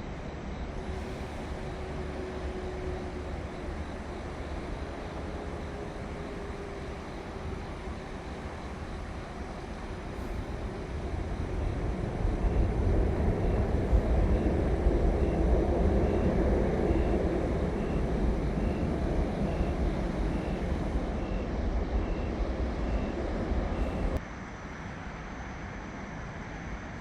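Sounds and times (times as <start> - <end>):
airplane engine rumble: 0.0 - 27.0.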